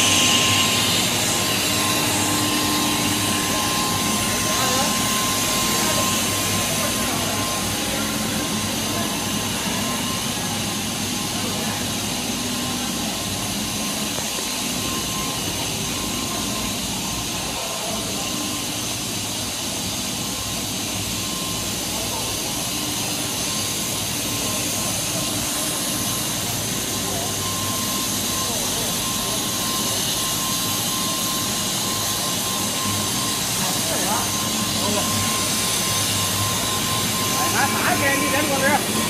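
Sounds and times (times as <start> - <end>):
high machine whine: 0.0 - 39.0
machinery din of motors and fans: 0.0 - 39.0.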